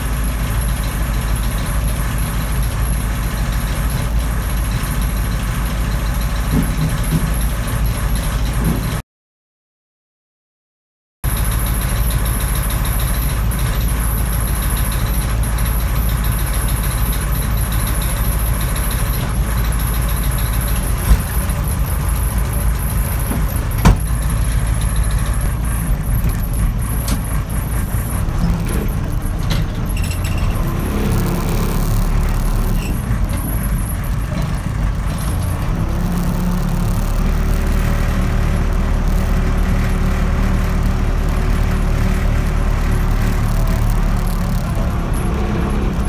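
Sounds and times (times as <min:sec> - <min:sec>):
backhoe engine running: 0:00.0 - 0:09.0, 0:11.2 - 0:46.0.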